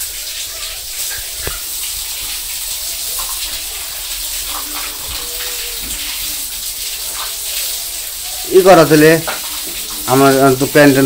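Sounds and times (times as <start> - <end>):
running water hissing: 0.0 - 11.0.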